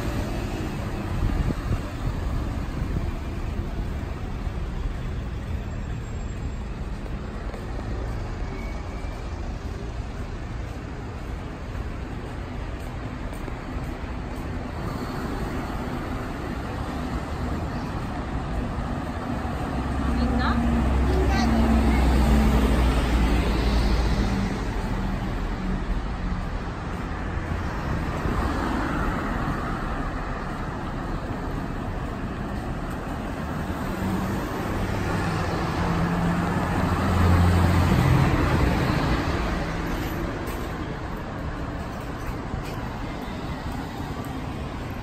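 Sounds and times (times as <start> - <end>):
cars passing with engine hum: 0.0 - 45.0.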